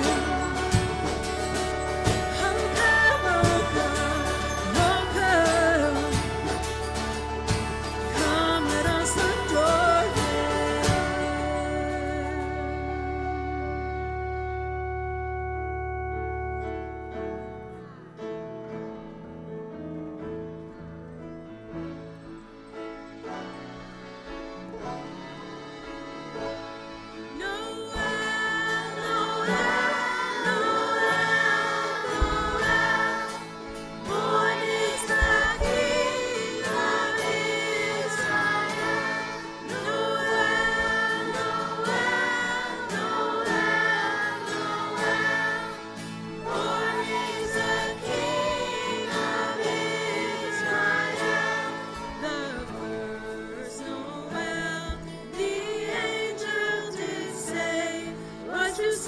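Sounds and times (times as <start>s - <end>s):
choir singing worship song: 0.0s - 14.7s, 25.0s - 59.0s
instrumental accompaniment: 0.0s - 59.0s.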